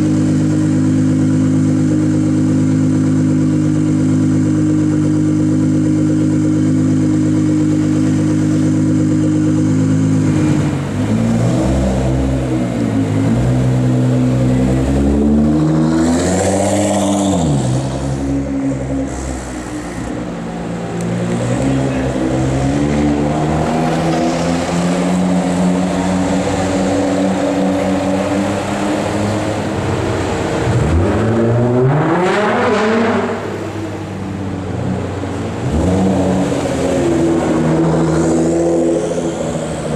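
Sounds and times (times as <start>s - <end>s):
loud car exhaust revving: 0.0s - 39.9s.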